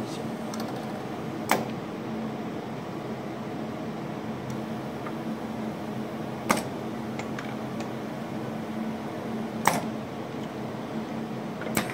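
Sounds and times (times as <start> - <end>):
conveyor motor hum: 0.0 - 11.9.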